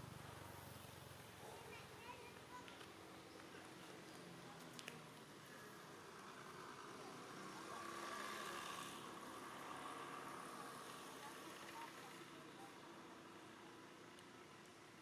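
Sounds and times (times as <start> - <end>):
faint motor vehicle running: 0.0 - 15.0.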